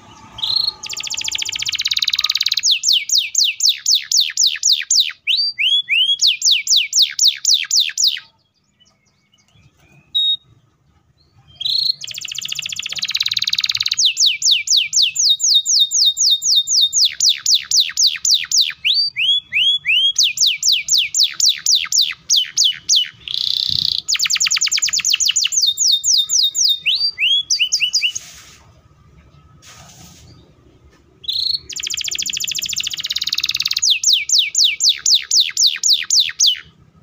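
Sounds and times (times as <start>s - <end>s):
canary singing: 0.0s - 29.6s, 30.2s - 37.0s.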